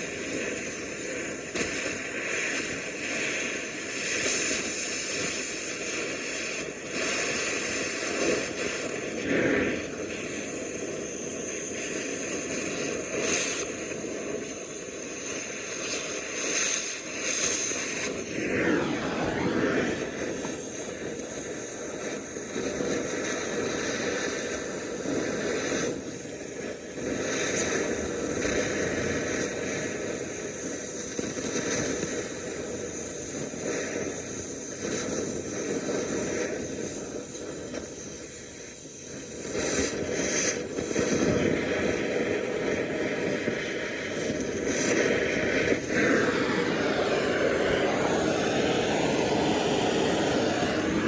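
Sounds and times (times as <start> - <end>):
gas torch flame roaring: 0.0 - 51.0.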